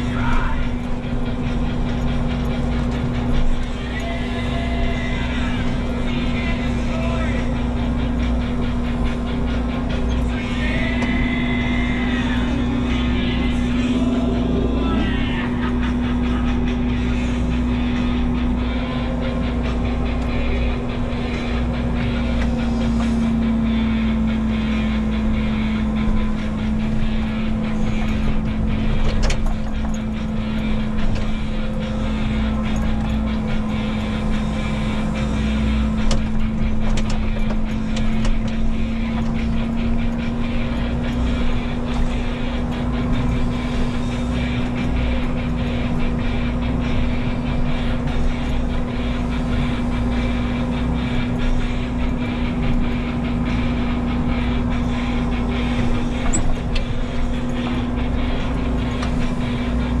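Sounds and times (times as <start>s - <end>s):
diesel engine running: 0.0s - 60.0s.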